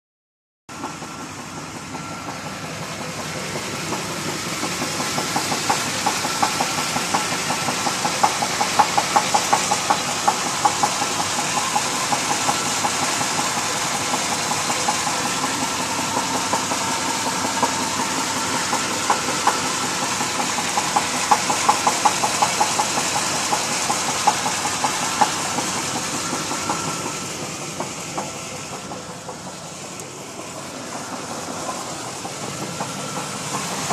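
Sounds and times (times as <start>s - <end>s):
engine knocking: 0.7s - 33.9s
engine running: 0.7s - 33.9s.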